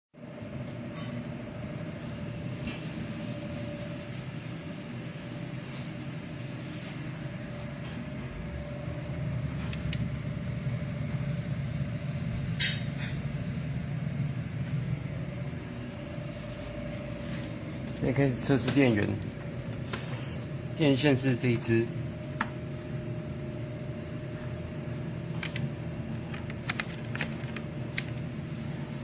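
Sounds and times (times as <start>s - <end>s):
faint constant hum: 0.2s - 29.0s.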